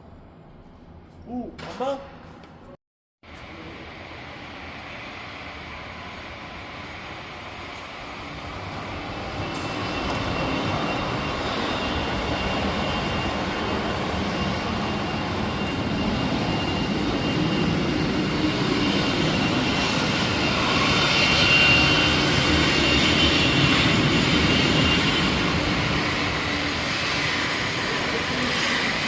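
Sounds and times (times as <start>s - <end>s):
light aircraft engine: 3.2s - 29.0s.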